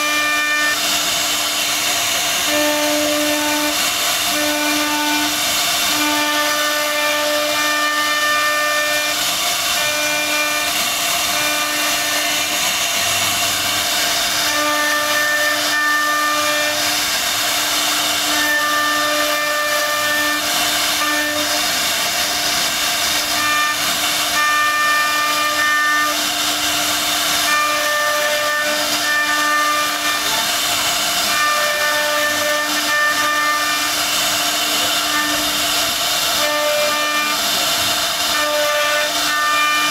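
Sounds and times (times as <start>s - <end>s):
router spindle carving wood: 0.0s - 39.9s.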